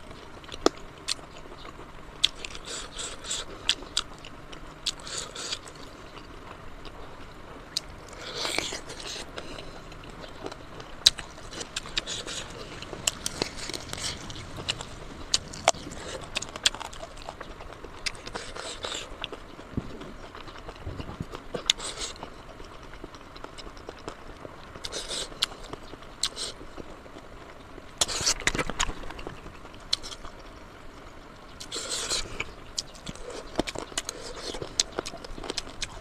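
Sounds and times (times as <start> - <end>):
person chewing with mouth smacks: 0.4 - 27.2, 28.0 - 30.5, 31.6 - 36.0.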